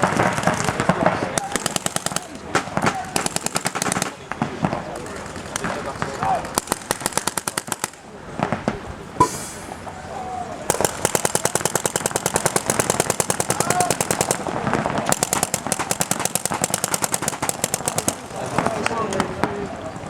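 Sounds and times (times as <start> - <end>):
paintball markers rapid firing: 0.0 - 8.7, 10.7 - 19.2.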